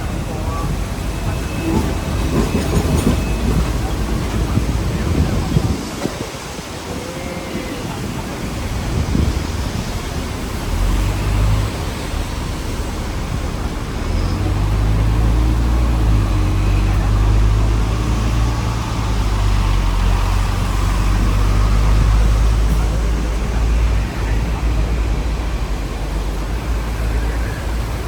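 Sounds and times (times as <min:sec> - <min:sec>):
tram motors and wheels rumbling: 0:00.0 - 0:28.0.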